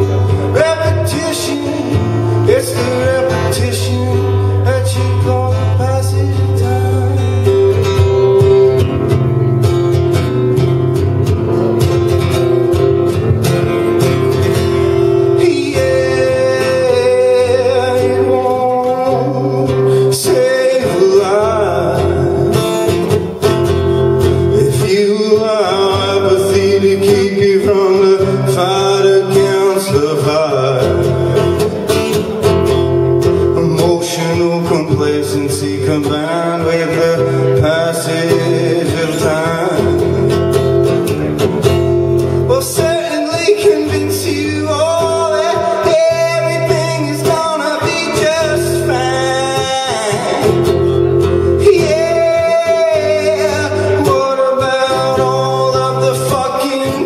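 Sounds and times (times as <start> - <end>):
man singing: 0.0 - 9.2, 10.6 - 32.3, 33.2 - 57.0
acoustic guitar strumming: 0.0 - 57.0.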